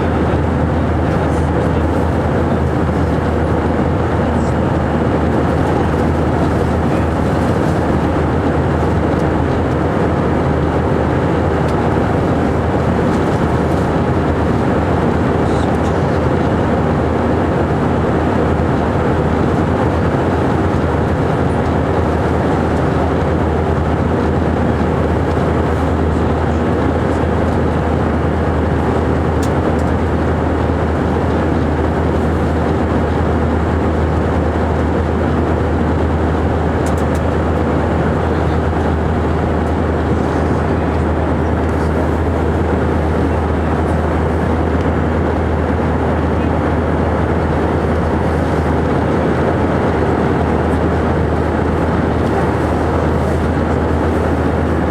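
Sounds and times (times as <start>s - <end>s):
jet engines and airflow rushing: 0.0s - 54.9s.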